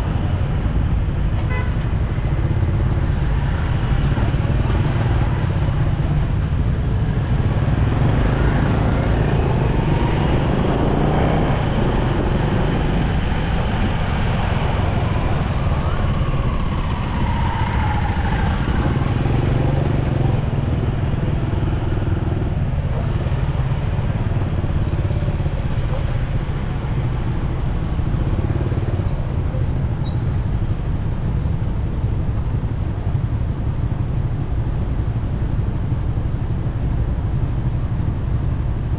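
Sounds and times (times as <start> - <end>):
road and wind noise: 0.0 - 38.9
vehicles passing: 0.0 - 38.9.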